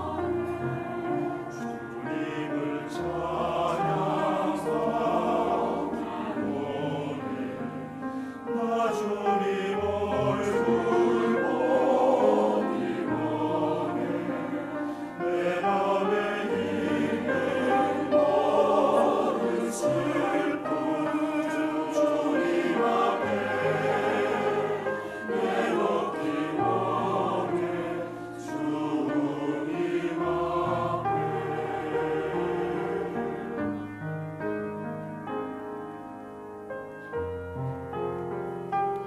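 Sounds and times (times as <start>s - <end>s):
mixed choir singing: 0.0s - 33.9s
grand piano: 0.0s - 39.0s.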